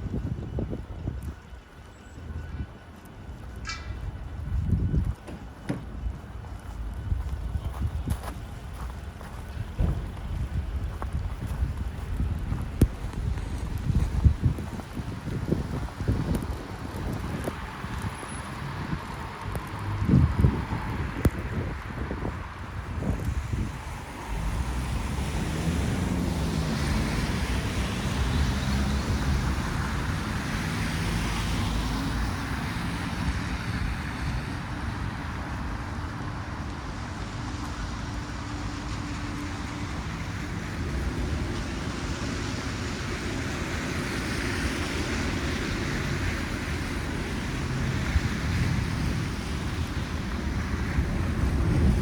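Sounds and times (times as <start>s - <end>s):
street traffic: 0.0s - 52.0s
vehicles passing: 0.0s - 52.0s
wind rumbling on microphone: 0.0s - 52.0s.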